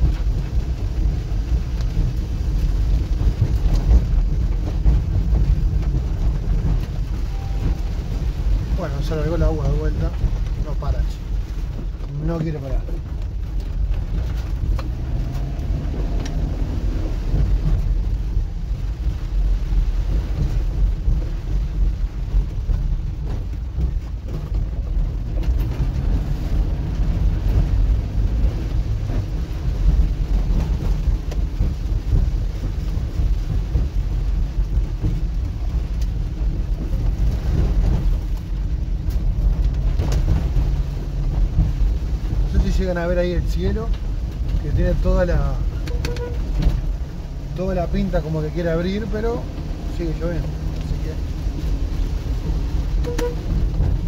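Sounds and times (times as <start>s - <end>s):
low car rumble: 0.0s - 54.0s
rain falling on car: 0.0s - 54.0s
tyres on wet road: 0.0s - 54.0s.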